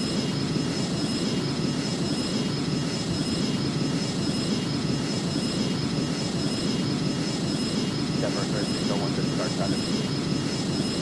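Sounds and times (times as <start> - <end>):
airliner engines rumbling: 0.0 - 11.0
faint high whine: 0.0 - 11.0.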